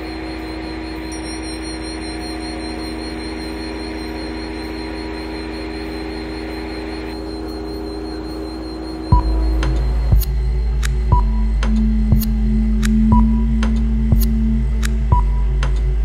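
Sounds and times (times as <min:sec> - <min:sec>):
held tones: 0:00.0 - 0:16.0
low electronic drone: 0:00.0 - 0:16.0.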